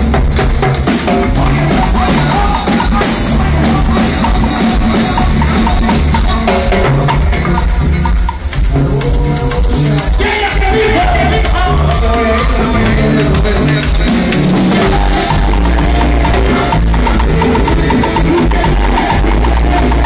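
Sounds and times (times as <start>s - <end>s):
bass line: 0.0s - 20.0s
drums: 0.0s - 20.0s
keyboard: 0.0s - 20.0s
timbales and congas: 0.0s - 20.0s.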